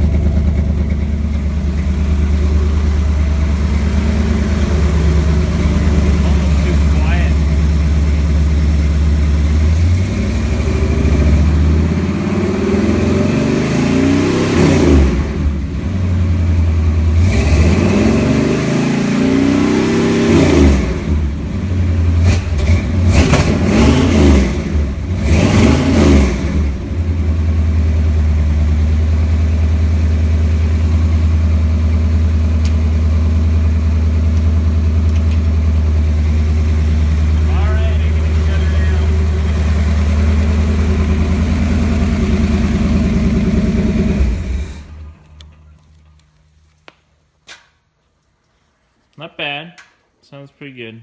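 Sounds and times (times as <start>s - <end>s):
truck engine idling and revving: 0.0s - 46.6s.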